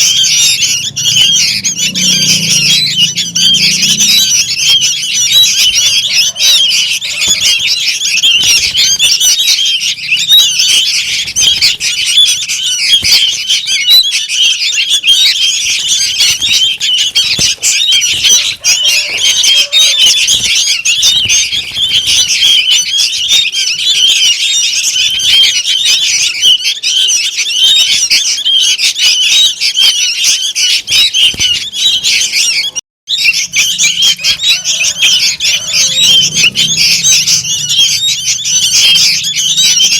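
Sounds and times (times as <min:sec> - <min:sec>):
bulbuls chirping noisily: 0:00.0 - 0:39.9.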